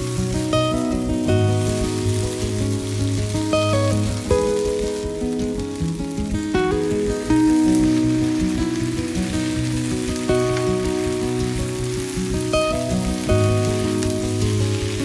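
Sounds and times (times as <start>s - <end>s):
instrumental background music: 0.0s - 15.0s
vegetables sizzling in a wok: 0.0s - 15.0s.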